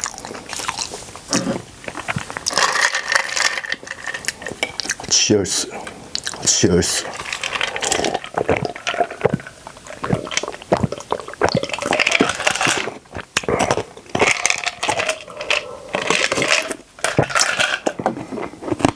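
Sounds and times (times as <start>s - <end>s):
chewing and mouth noises: 0.0s - 18.9s.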